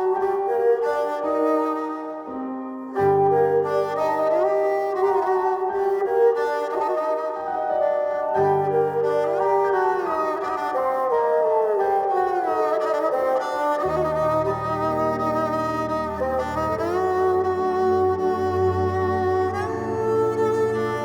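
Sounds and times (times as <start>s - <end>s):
bowed strings melody: 0.0s - 21.0s.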